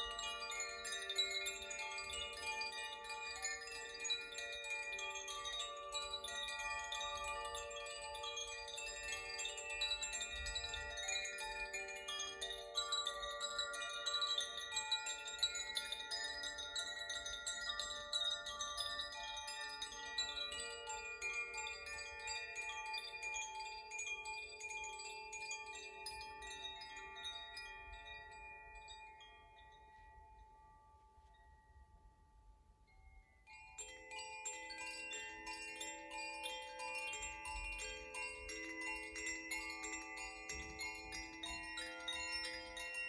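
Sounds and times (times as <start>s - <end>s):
wind chimes ringing: 0.0s - 43.0s.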